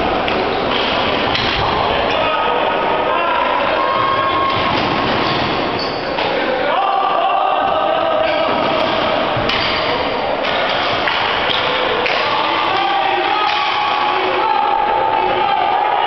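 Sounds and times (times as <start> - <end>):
players shouting: 1.6 - 16.0.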